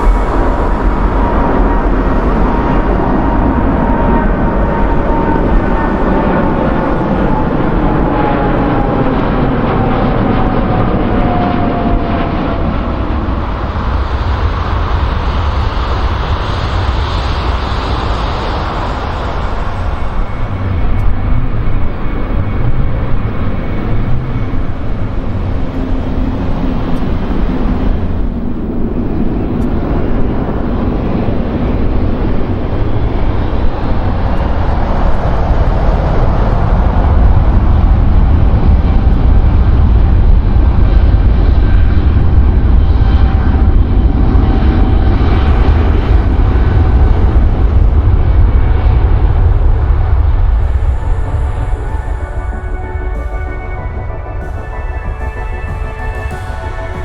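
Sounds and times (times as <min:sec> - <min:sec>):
jet airliner engines rumbling: 0:00.0 - 0:57.0.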